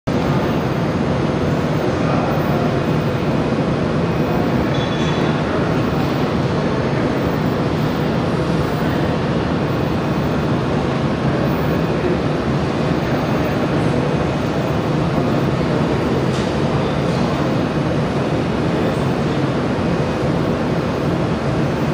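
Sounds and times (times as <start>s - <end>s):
machine rushing hum: 0.1s - 21.9s.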